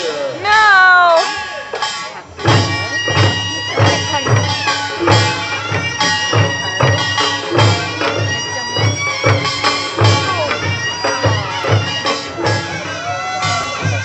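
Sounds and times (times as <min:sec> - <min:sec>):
drums beating: 0:00.0 - 0:14.0
reedy high melody: 0:00.4 - 0:14.0.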